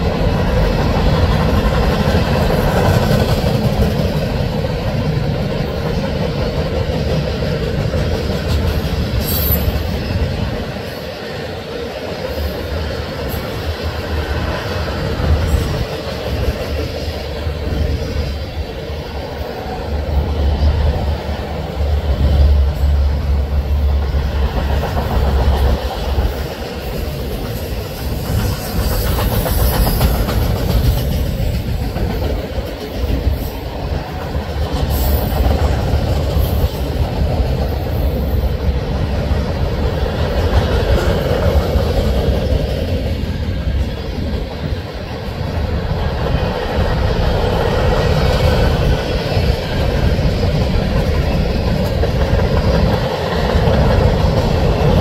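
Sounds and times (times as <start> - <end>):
steel wheels rumbling on rail: 0.0 - 55.0
wheels clacking over rail joints: 0.0 - 55.0.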